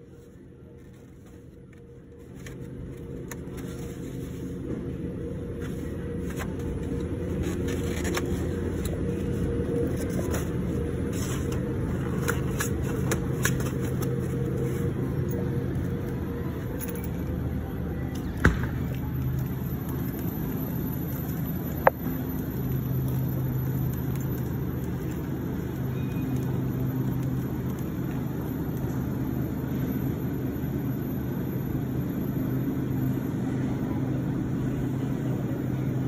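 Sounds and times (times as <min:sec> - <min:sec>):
store background hum: 0:00.0 - 0:36.0.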